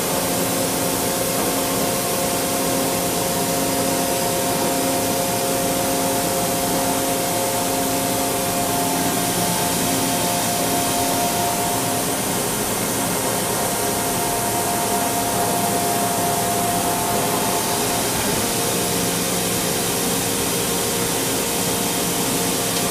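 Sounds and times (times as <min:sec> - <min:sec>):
boring mill hissing: 0:00.0 - 0:22.9
machine whining tones: 0:03.0 - 0:22.9.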